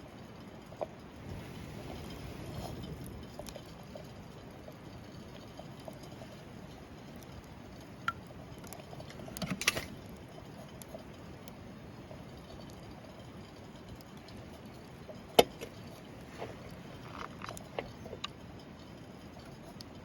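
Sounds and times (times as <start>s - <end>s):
campfire burning: 0.0s - 20.0s
fire crackling and popping: 0.0s - 20.0s.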